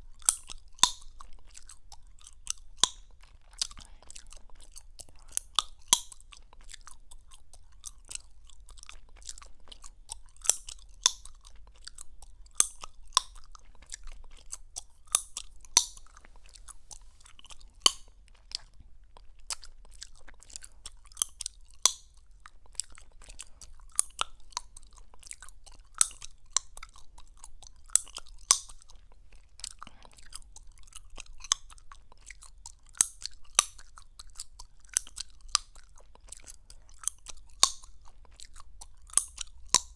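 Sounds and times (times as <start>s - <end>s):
gum chewing with wet smacking: 0.0s - 39.9s
gum popping clicks: 0.1s - 39.9s.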